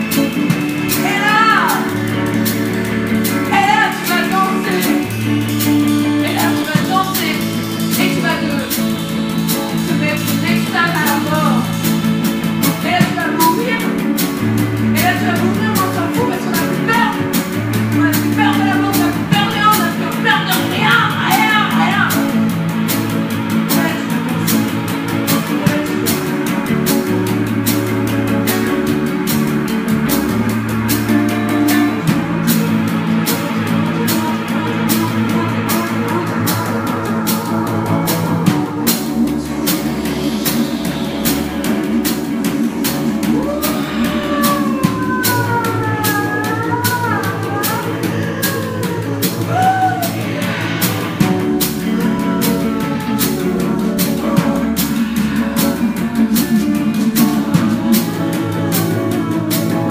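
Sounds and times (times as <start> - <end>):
instrumental rock music: 0.0 - 59.9
sliding melody line: 0.0 - 59.9.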